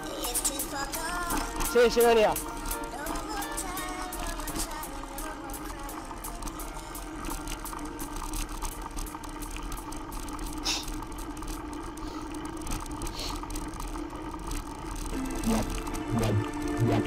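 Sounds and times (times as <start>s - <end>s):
mountain bike rattling over dirt: 0.0s - 17.0s.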